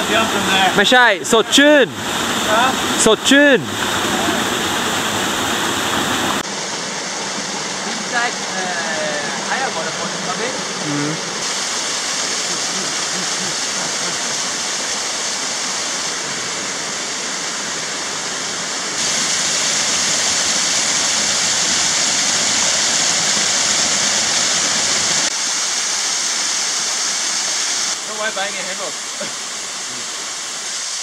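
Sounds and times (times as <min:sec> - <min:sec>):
waterfall over rocks: 0:00.0 - 0:31.0.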